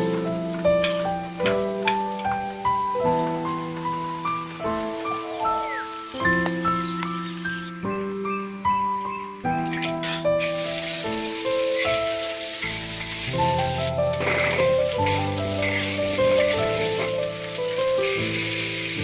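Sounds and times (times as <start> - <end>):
food sizzling in hot oil: 0.0 - 7.4, 9.8 - 19.0
soft melodic music: 0.0 - 19.0.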